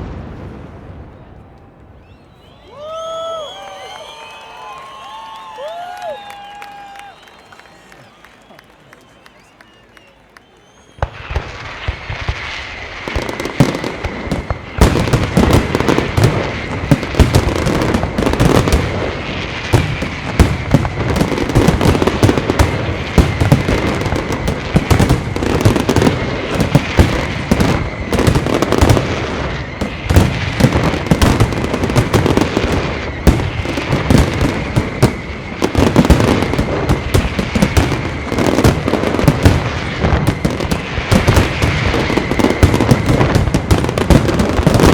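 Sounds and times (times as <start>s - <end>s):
fireworks bursts and bangs: 0.0s - 44.9s.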